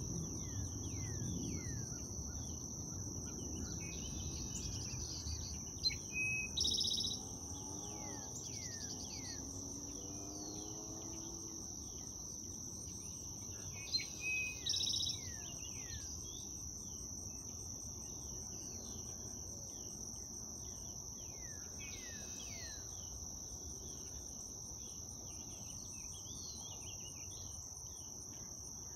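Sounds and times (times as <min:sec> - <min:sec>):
high insect trill: 0:00.0 - 0:28.9
songbird singing: 0:00.0 - 0:28.9.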